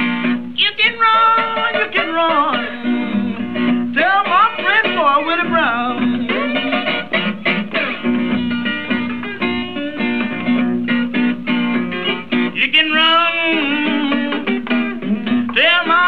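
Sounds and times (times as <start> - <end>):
acoustic blues slide guitar: 0.0 - 16.0.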